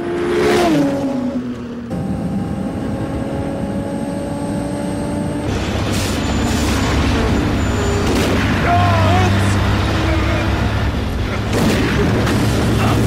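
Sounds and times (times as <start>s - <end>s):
car engine drone: 0.0s - 13.0s
low road rumble: 0.0s - 13.0s.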